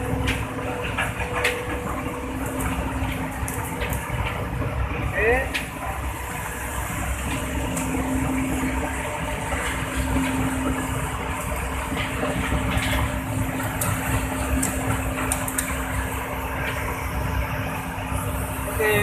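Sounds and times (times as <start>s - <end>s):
excavator diesel engine at high throttle: 0.0s - 19.0s
steady hum: 0.0s - 19.0s.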